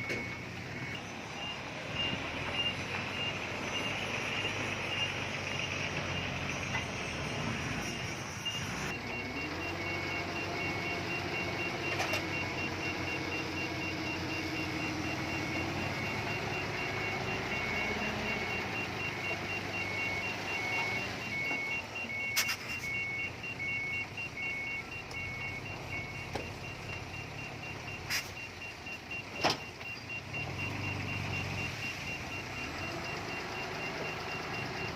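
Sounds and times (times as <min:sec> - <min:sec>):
heavy diesel machinery running: 0:00.0 - 0:34.9
reversing alarm beeping: 0:00.0 - 0:34.9.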